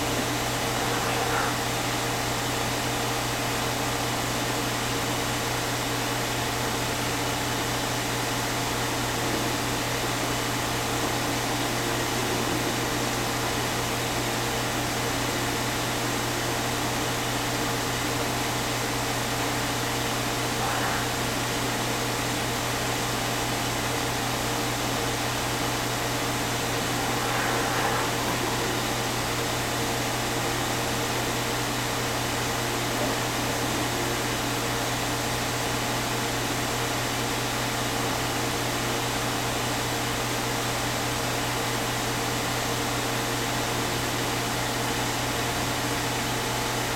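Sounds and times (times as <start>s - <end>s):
electrical hum with hiss: 0.0s - 46.9s.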